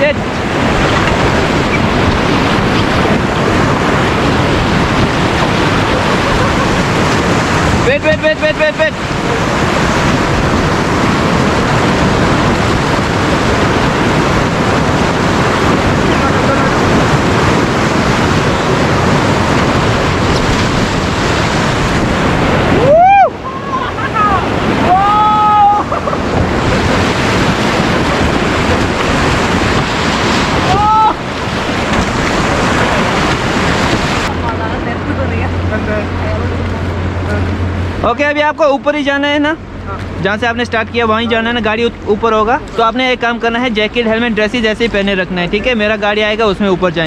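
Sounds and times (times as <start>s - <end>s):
river whitewater rushing: 0.0s - 38.6s.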